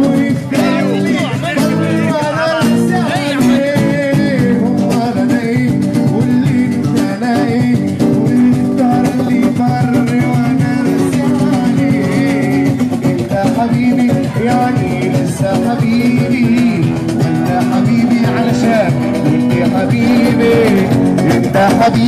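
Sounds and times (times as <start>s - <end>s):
cajon drumming: 0.0s - 22.0s.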